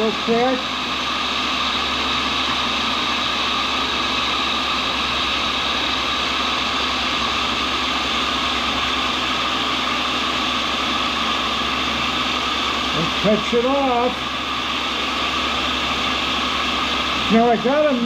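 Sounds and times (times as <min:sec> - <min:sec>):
grinder motor humming: 0:00.0 - 0:18.0.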